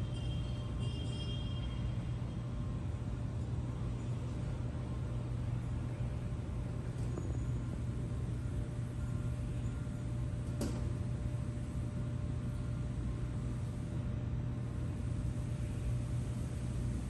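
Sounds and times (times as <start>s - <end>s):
city traffic rumble: 0.0s - 17.0s
constant low hum: 0.0s - 17.0s.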